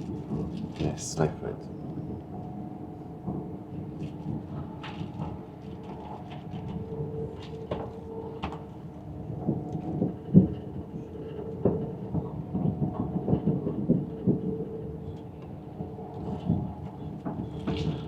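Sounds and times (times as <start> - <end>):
train running hum: 0.0 - 18.0.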